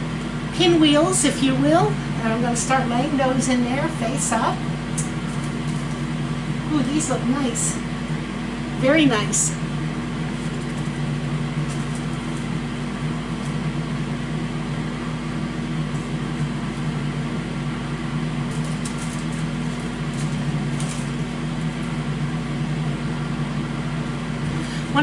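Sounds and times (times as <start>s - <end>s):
mechanical hum with hiss: 0.0s - 25.0s.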